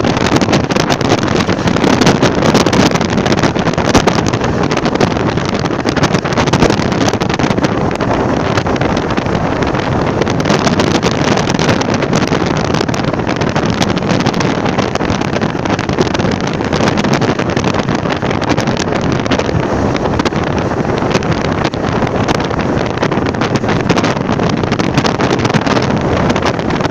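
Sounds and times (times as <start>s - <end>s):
strong wind on microphone: 0.0s - 26.9s.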